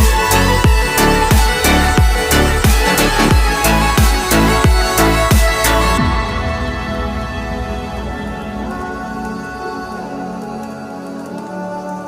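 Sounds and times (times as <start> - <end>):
kick drum with falling pitch: 0.0 - 9.7
sustained synth chords: 0.0 - 12.0.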